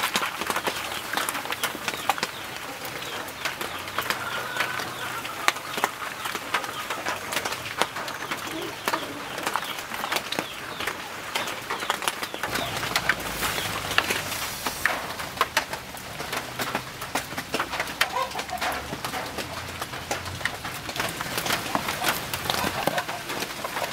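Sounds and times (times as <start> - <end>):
birds calling: 0.0 - 23.9
wood fire crackling and popping: 0.0 - 23.9.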